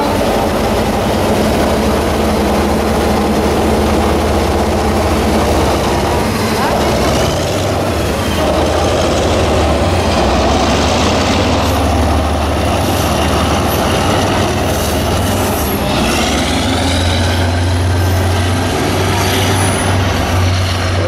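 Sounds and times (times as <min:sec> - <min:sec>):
high wheel squeal: 0:00.0 - 0:21.0
train rumbling on track: 0:00.0 - 0:21.0.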